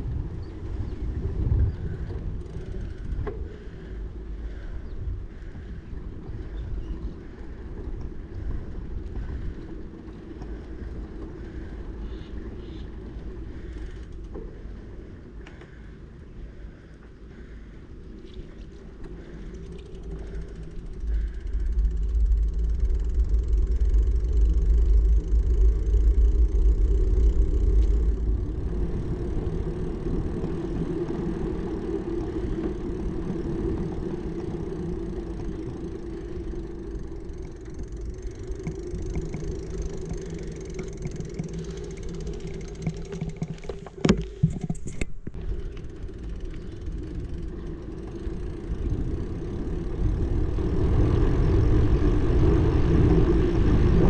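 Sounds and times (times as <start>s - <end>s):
road travel rumble: 0.0s - 54.0s
wind buffeting microphone: 0.0s - 54.0s.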